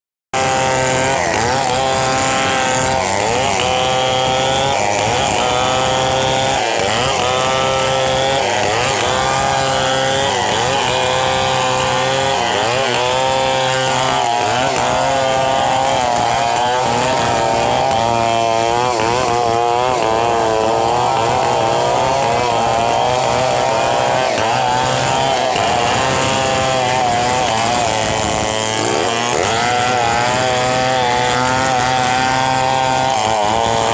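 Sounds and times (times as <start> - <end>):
chainsaws cutting logs: 0.4 - 33.9.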